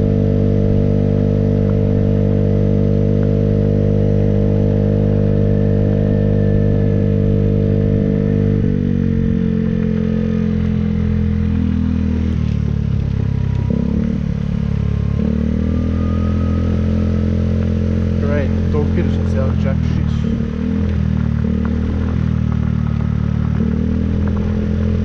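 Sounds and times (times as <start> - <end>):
small vehicle engine running: 0.0 - 25.0.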